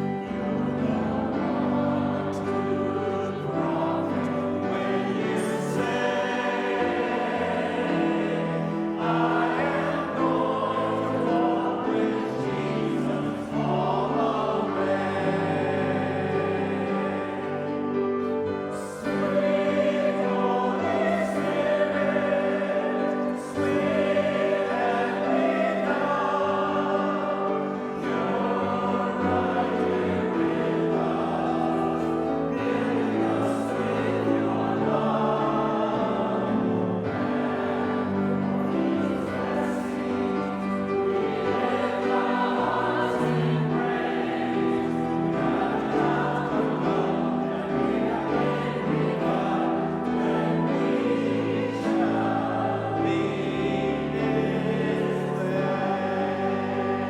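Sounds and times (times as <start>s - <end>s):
choir singing a hymn: 0.0s - 57.0s
instrumental accompaniment: 0.0s - 57.0s.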